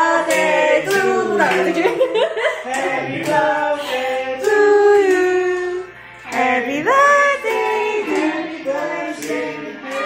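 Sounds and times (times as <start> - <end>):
group singing birthday song: 0.0 - 10.0.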